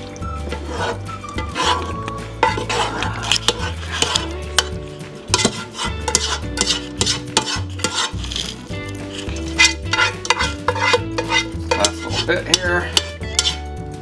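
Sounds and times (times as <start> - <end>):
spatula scraping a cooking pot: 0.4 - 13.7.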